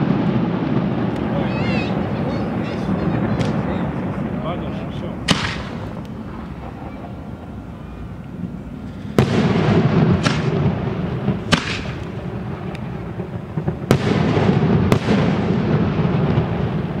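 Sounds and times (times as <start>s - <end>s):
fireworks bangs: 0.0s - 17.0s
low din of firework bursts: 0.0s - 17.0s.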